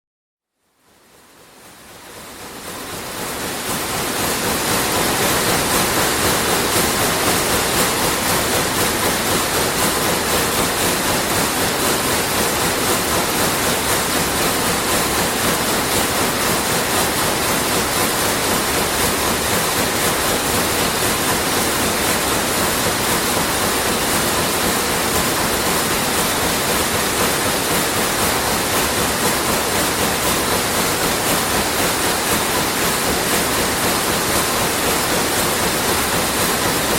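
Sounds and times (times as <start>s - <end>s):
weaving looms clattering: 3.2s - 36.9s.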